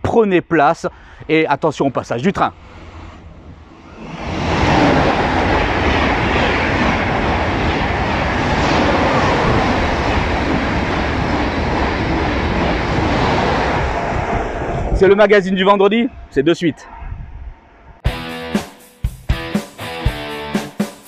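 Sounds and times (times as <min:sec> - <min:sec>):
high-speed train passing: 0:01.1 - 0:18.0.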